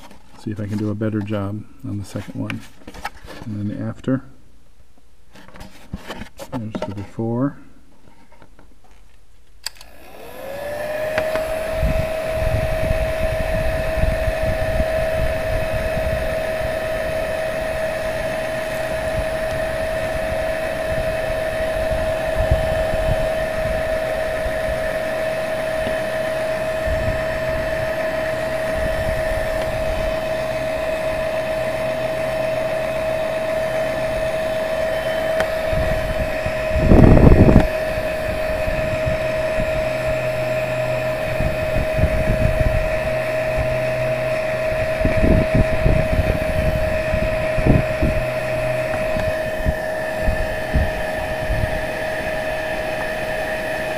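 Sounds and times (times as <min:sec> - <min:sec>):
heat gun fan whine: 0:09.6 - 0:53.9
rush of hot air: 0:09.9 - 0:53.9.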